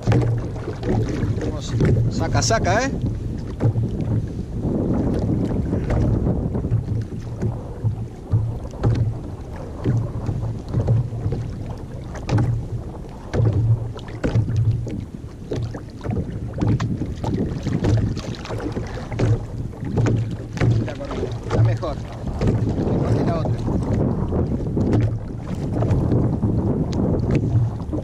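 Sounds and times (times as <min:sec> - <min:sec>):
water lapping against kayak hull: 0:00.0 - 0:28.0
wind gusting across microphone: 0:00.0 - 0:28.0.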